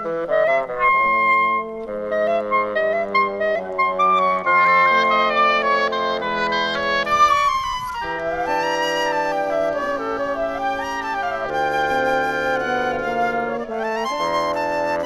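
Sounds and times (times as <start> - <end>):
bassoon: 0.0 - 15.0
clarinet: 0.0 - 15.0
flute: 0.0 - 15.0
french horn: 0.0 - 15.0
oboe: 0.0 - 15.0.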